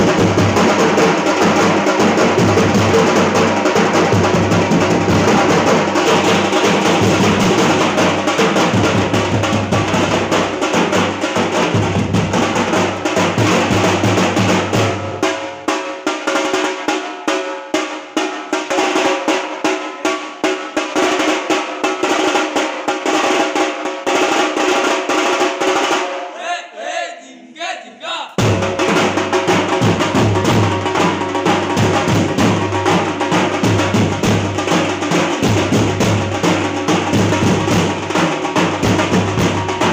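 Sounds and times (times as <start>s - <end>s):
music with rapid driving drumming: 0.0s - 26.2s, 28.4s - 39.9s.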